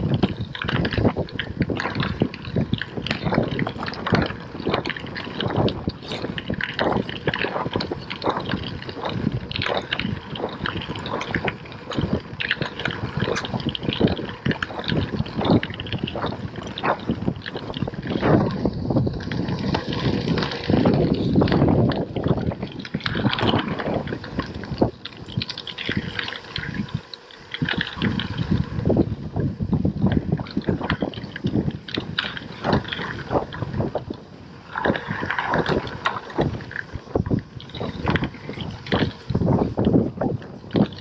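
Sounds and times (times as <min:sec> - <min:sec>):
wind on microphone: 0:00.0 - 0:41.0.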